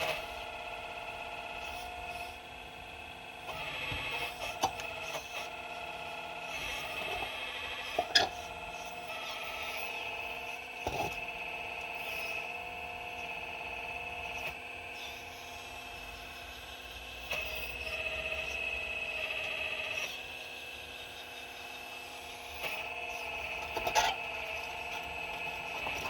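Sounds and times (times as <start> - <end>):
excavator hydraulics whining: 0.0 - 26.0.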